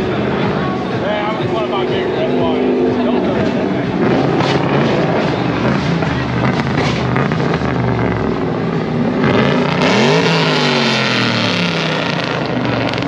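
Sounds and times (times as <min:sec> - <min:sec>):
car engine revving: 0:00.0 - 0:13.0
exhaust rasp: 0:00.0 - 0:13.0.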